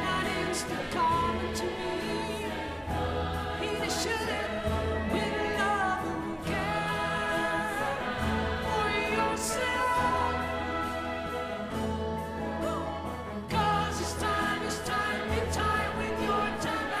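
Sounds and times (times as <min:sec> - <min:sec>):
acoustic guitar: 0:00.0 - 0:17.0
choir singing: 0:00.0 - 0:17.0
lead vocalist singing: 0:00.0 - 0:17.0
symphony orchestra: 0:00.0 - 0:17.0.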